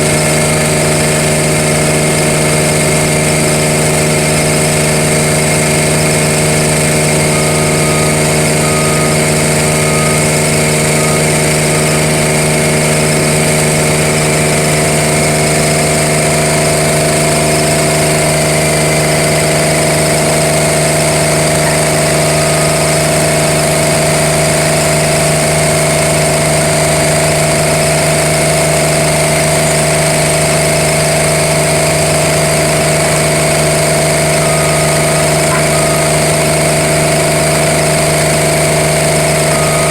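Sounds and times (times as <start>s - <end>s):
milling machine humming and whining: 0.0s - 39.9s.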